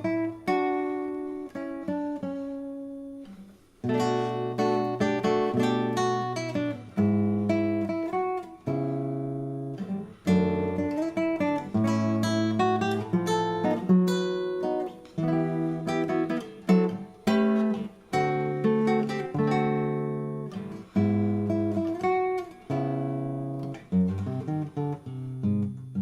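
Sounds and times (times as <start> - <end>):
acoustic guitar playing jazz: 0.0 - 26.0.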